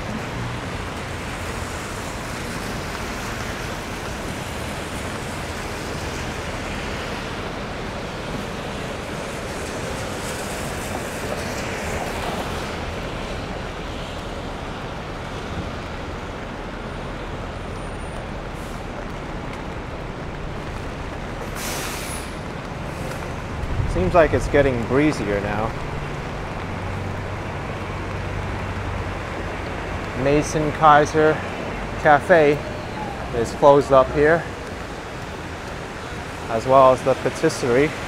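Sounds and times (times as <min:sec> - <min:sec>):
city traffic roar: 0:00.0 - 0:38.0.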